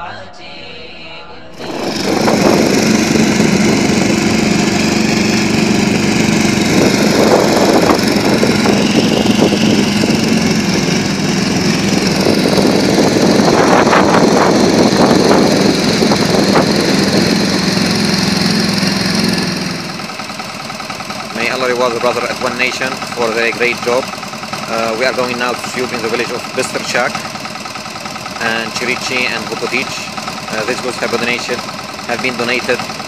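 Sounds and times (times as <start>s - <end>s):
small engine running: 1.5s - 33.0s.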